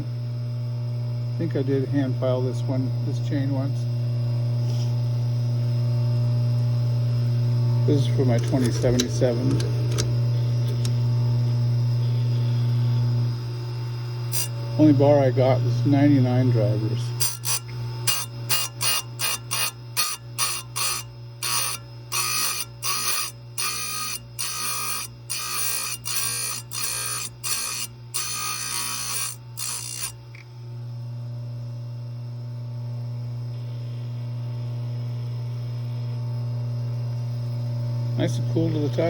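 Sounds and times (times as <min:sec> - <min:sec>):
grinder motor humming: 0:01.2 - 0:31.0, 0:33.3 - 0:39.0.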